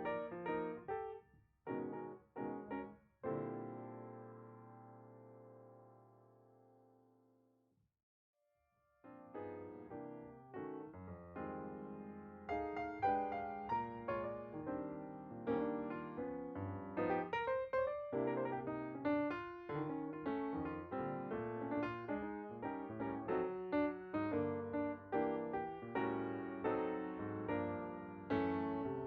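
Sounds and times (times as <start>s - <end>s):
piano melody: 0.0s - 6.4s, 9.0s - 29.0s.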